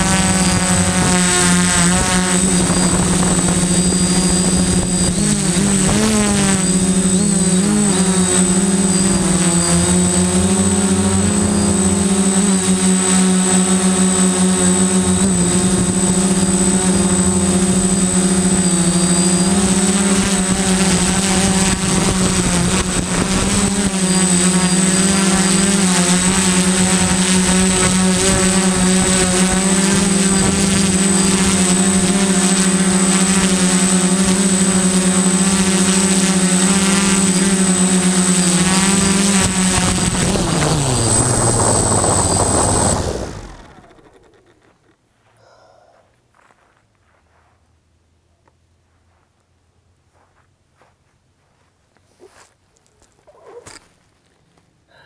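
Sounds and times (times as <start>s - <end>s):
drone motors and propellers whining: 0.0s - 45.0s.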